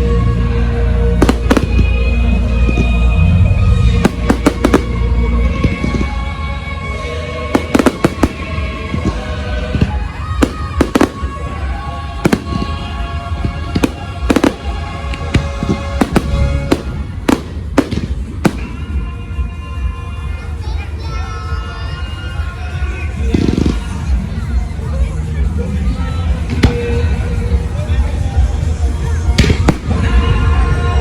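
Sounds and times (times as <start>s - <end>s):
music: 0.0s - 31.0s
fireworks bangs and crackles: 1.1s - 31.0s.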